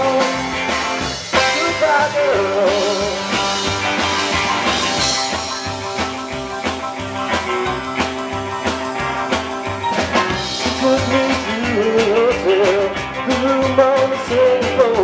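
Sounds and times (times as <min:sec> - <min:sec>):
drum kit beat: 0:00.0 - 0:15.0
electric guitar: 0:00.0 - 0:15.0
rock band playing: 0:00.0 - 0:15.0.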